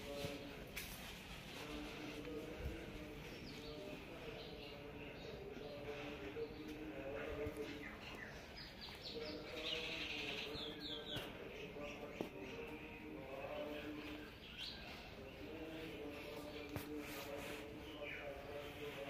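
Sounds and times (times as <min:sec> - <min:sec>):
small birds chirping: 0:01.5 - 0:19.0.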